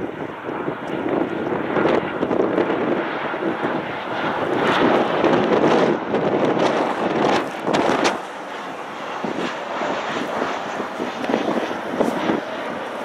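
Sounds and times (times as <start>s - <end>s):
jet engine rush: 0.0s - 13.0s.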